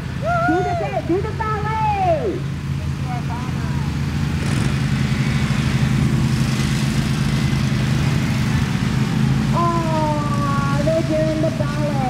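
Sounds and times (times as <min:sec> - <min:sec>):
lawn mower engines running: 0:00.0 - 0:12.0.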